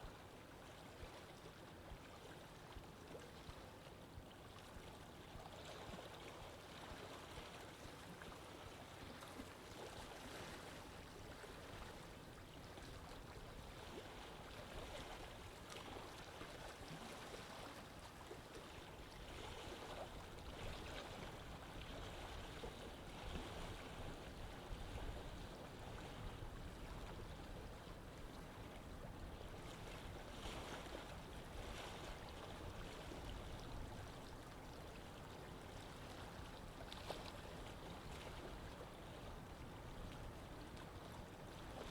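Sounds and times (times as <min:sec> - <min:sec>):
water flowing in a canal: 0:00.0 - 0:41.9.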